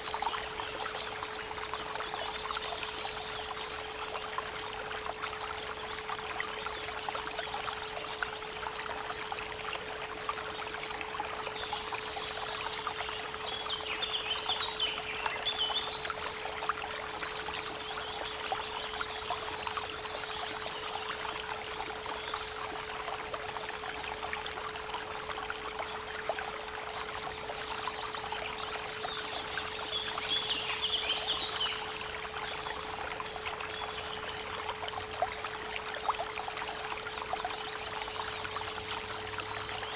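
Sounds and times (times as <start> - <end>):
creek water running: 0.0 - 39.9.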